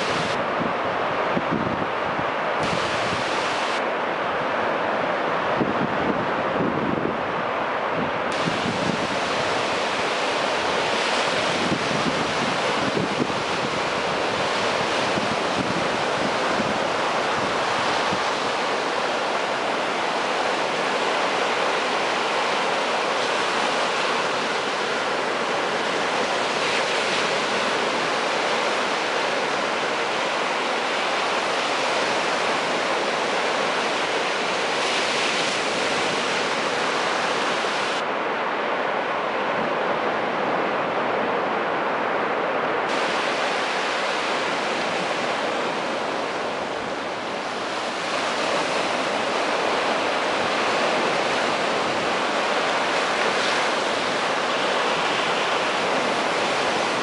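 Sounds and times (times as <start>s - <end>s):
waves washing up beach: 0.0s - 57.0s.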